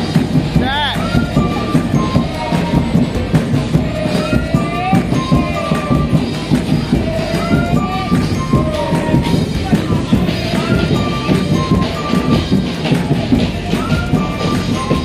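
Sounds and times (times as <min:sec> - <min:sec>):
festival dance music: 0:00.0 - 0:15.0.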